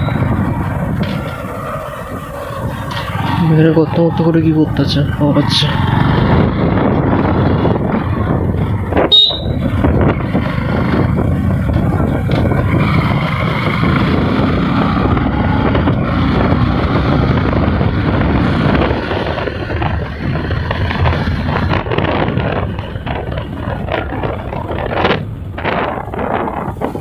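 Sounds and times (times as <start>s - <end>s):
motorcycle engine: 0.0s - 27.0s
road noise: 0.0s - 27.0s
wind buffeting microphone: 0.0s - 27.0s.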